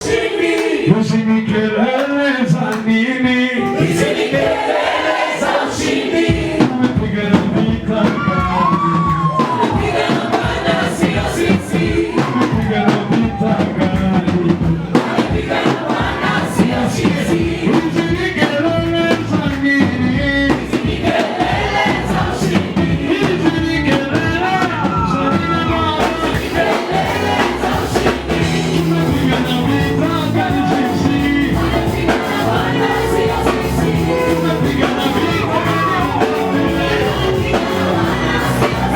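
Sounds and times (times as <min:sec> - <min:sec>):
gospel singing with instruments: 0:00.0 - 0:38.9.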